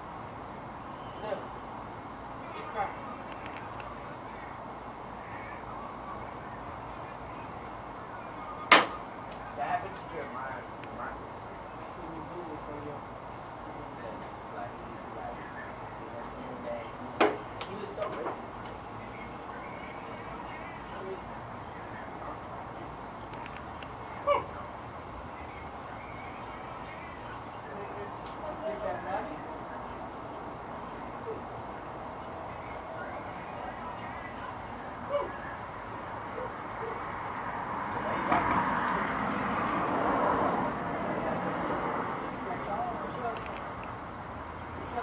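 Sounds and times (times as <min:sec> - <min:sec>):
crickets chirping: 0:00.0 - 0:45.0
faint low background noise: 0:00.0 - 0:45.0
night insects trilling: 0:00.0 - 0:45.0.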